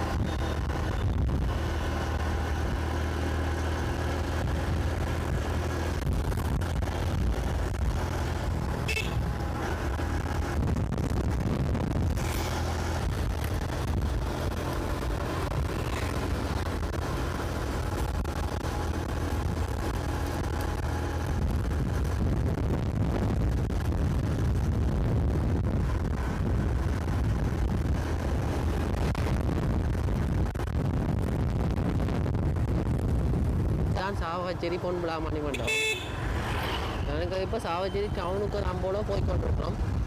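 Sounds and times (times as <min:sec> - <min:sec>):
motorcycle engine rumble: 0:00.0 - 0:40.0
road noise: 0:00.0 - 0:40.0.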